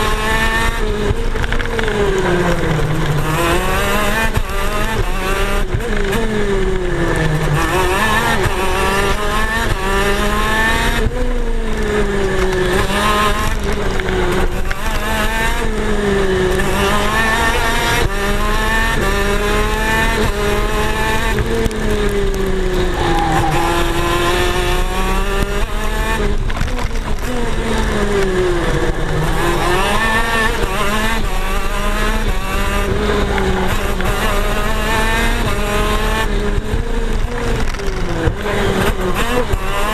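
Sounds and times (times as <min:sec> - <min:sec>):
kart engines racing: 0:00.0 - 0:39.9.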